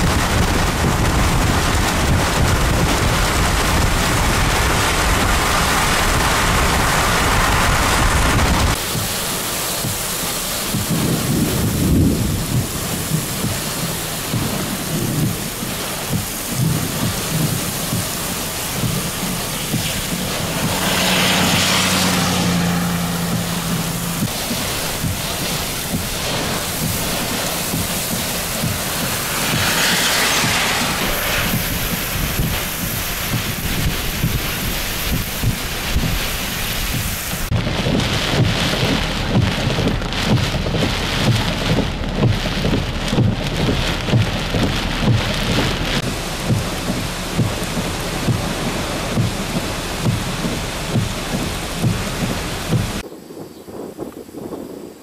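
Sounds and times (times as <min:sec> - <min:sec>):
vehicle passing on wet road: 0:00.0 - 0:53.0
heavy rain: 0:00.0 - 0:54.0
gusty wind: 0:00.0 - 0:55.0
thunder rumbling: 0:00.0 - 0:55.0.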